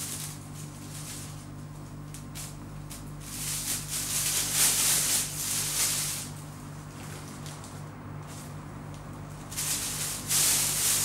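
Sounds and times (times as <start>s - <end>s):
plastic bag rustling: 0.0s - 8.6s, 9.3s - 11.0s.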